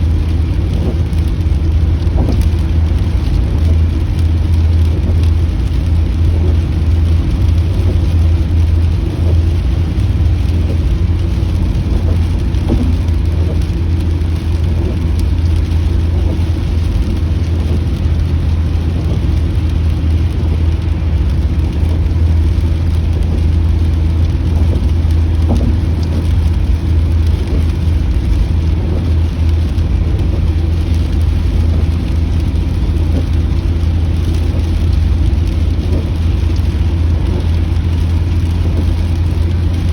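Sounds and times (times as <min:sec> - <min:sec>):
rain hissing on car: 0:00.0 - 0:39.9
road and engine rumble: 0:00.0 - 0:39.9.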